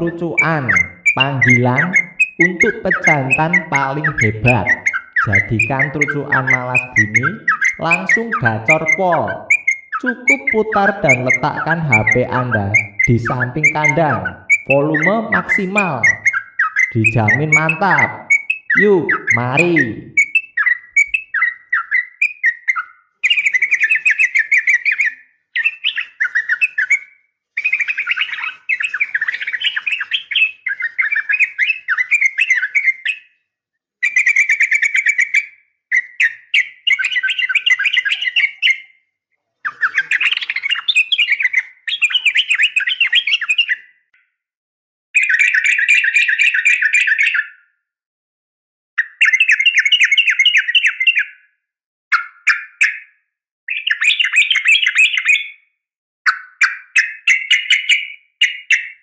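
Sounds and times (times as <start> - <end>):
bulbul chattering calls: 0.0 - 33.2, 34.0 - 38.9, 39.7 - 43.9, 45.2 - 47.6, 49.0 - 51.4, 53.7 - 55.6, 56.3 - 59.0.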